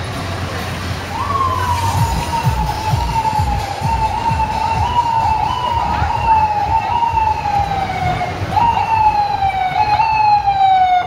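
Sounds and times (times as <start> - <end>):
street traffic rumble: 0.0 - 11.0
emergency vehicle siren: 1.0 - 11.0.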